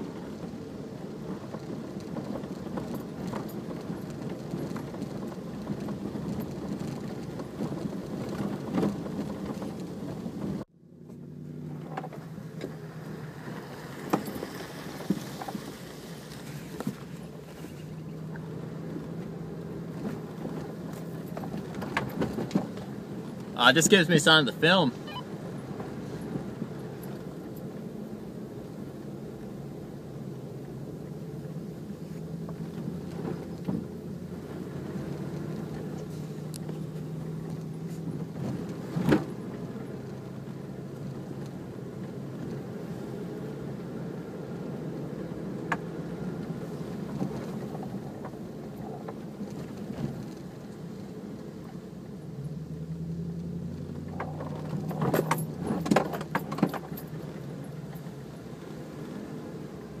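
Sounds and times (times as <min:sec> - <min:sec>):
off-road vehicle engine running: 0:00.0 - 1:00.0.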